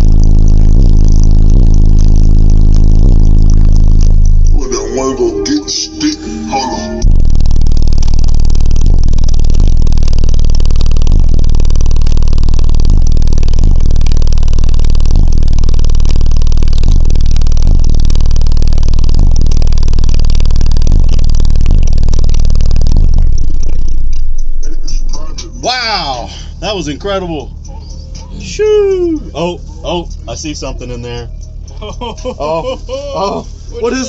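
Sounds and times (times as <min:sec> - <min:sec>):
distorted subwoofer bass tone: 0:00.0 - 0:34.0.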